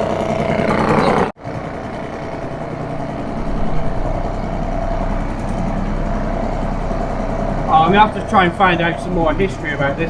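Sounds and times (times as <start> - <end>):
two-stroke outboard motor running: 0.0 - 10.0.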